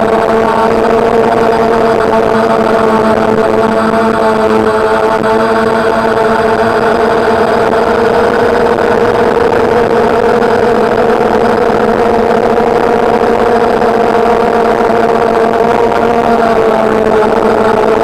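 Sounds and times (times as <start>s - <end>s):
drone motors and propellers humming: 0.0s - 18.0s.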